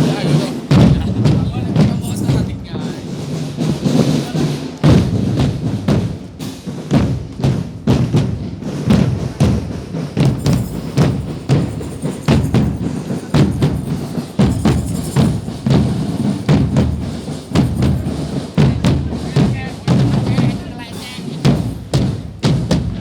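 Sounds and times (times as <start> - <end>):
heavy drum strokes: 0.0 - 23.0.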